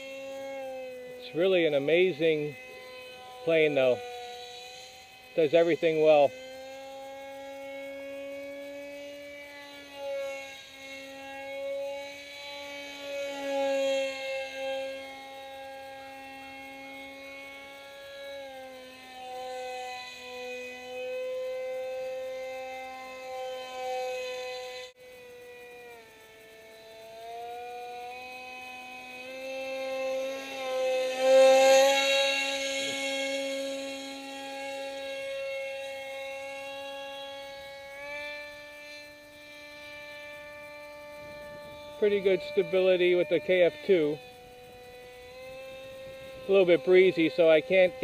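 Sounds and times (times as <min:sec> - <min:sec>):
model plane electric motor whine: 0:00.0 - 0:48.0.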